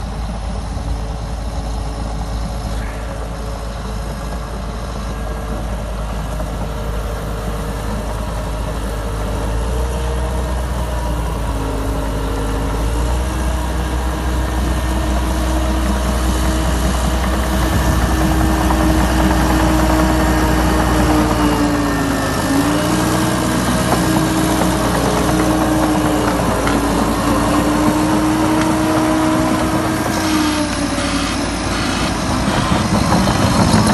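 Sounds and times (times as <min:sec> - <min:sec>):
diesel dozer engine under load: 0:00.0 - 0:33.9.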